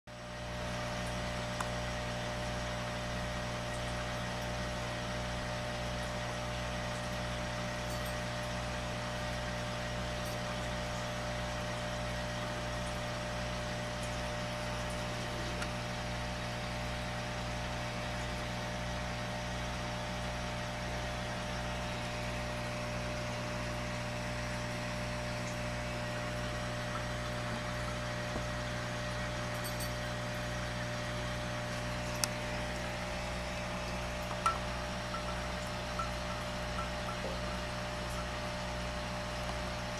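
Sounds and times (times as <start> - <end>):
low mechanical hum: 0.1 - 39.9.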